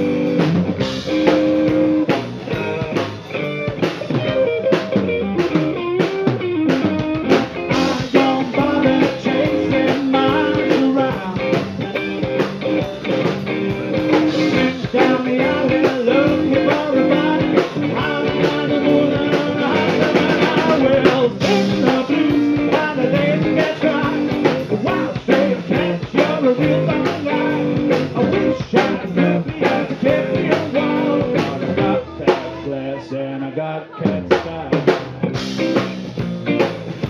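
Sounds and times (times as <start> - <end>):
drum kit: 0.0 - 32.8, 34.0 - 37.0
guitar: 0.0 - 37.0.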